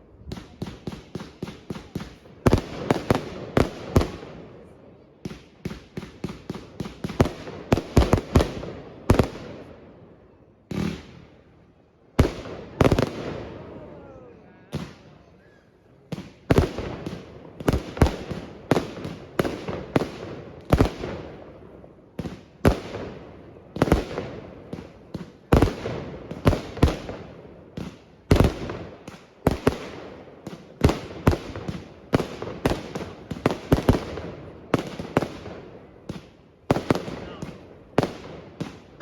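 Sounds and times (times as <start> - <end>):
fireworks bangs with crackling tails: 0.2 - 15.3, 16.0 - 39.0.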